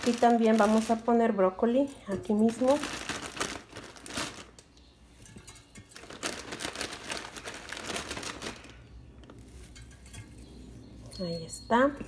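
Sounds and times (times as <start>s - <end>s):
broccoli rustling into steamer basket: 0.0s - 11.0s.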